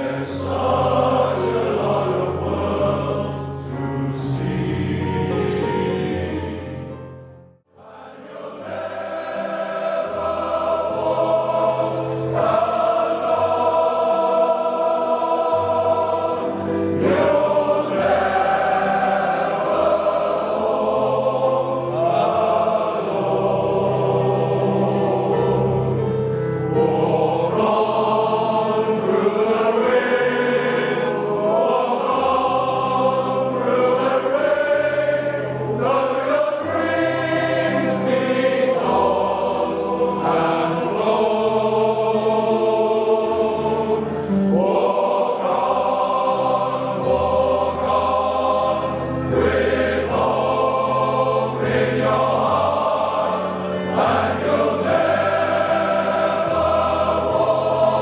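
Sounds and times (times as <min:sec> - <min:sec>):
male voice choir singing: 0:00.0 - 0:06.8, 0:07.7 - 0:58.0.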